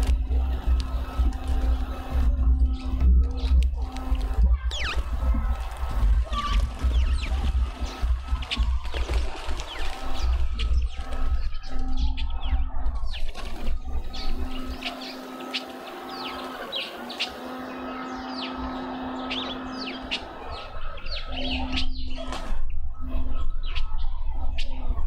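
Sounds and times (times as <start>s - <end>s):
songbirds chirping: 0.0s - 25.0s
steady low hum: 0.0s - 25.0s.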